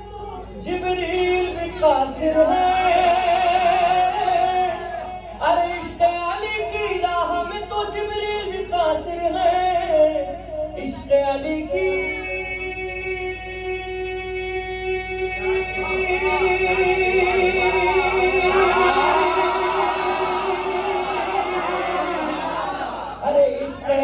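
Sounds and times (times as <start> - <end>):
man singing into a microphone: 0.0 - 22.5, 23.1 - 24.0.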